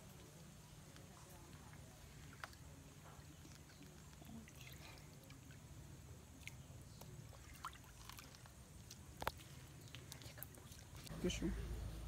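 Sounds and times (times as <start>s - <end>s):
water drips and splashes: 0.0s - 11.2s
low steady hum: 0.0s - 12.0s.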